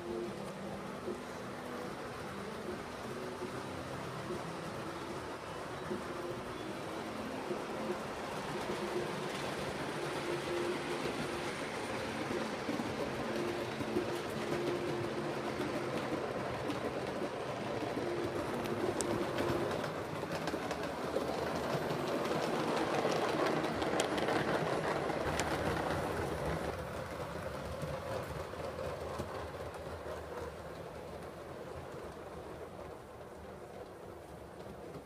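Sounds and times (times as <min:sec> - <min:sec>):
model train running on track: 0:00.0 - 0:35.0.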